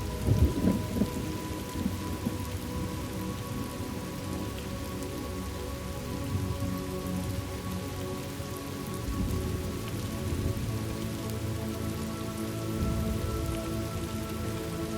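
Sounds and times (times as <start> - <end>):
calm background music: 0.0 - 14.9
steady rain: 0.0 - 14.9.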